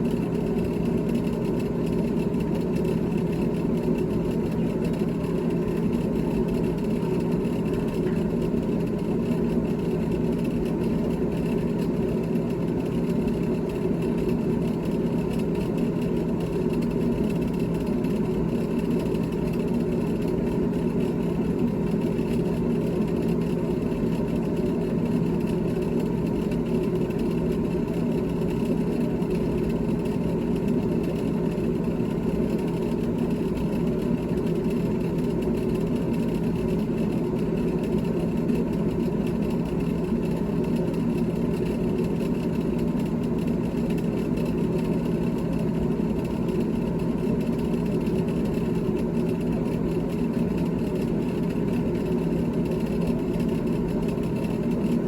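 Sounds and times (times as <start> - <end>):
refrigerator humming: 0.0 - 55.0.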